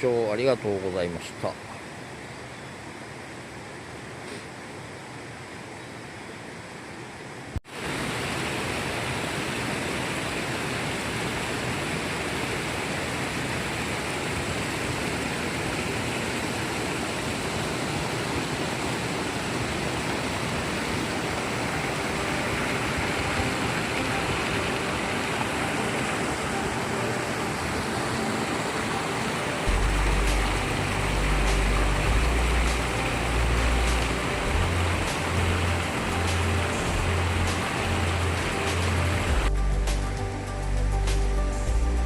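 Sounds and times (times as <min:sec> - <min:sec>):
mountain stream rushing: 0:00.0 - 0:42.0.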